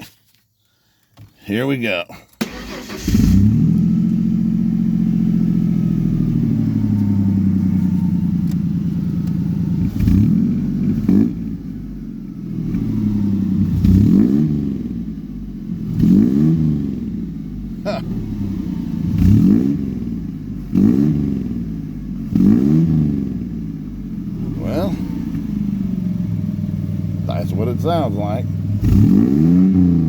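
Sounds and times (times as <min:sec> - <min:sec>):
car engine starting and revving: 0:02.4 - 0:30.0.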